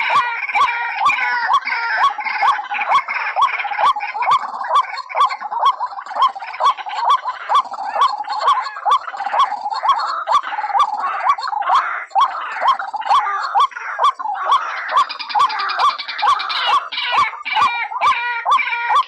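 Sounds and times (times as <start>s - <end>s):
overlapping bird chatter: 0.0s - 19.0s
waterhen calls: 0.0s - 19.0s.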